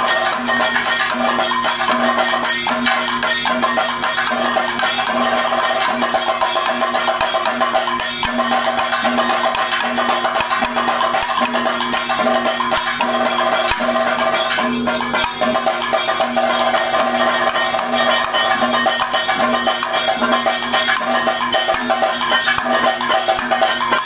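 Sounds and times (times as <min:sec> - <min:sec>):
cymbals: 0:00.0 - 0:24.0
drums fast rhythm: 0:00.0 - 0:24.0
steady held tone: 0:00.0 - 0:24.0.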